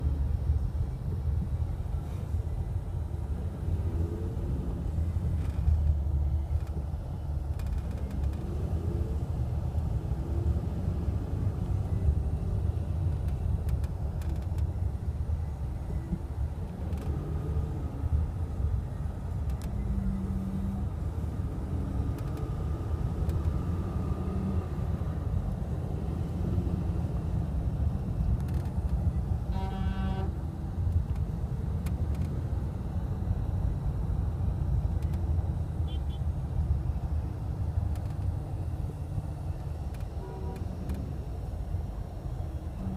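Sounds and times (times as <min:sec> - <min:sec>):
road and engine rumble: 0:00.0 - 0:42.9.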